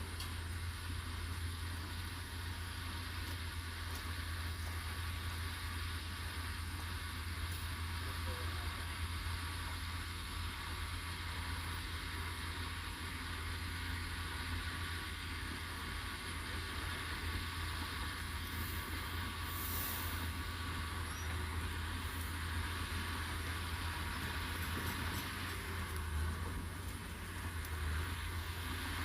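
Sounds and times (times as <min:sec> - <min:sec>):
diesel engine running steadily: 0:00.0 - 0:29.0.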